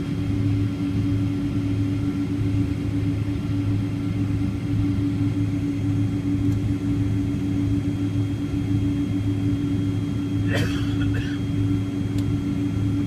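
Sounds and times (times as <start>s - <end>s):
airliner droning: 0.0s - 13.0s.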